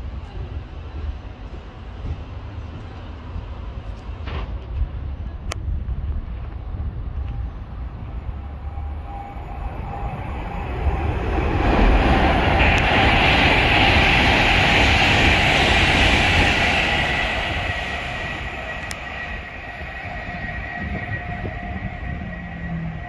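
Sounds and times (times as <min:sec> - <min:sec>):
train wheels rushing on rail: 0:00.0 - 0:23.0.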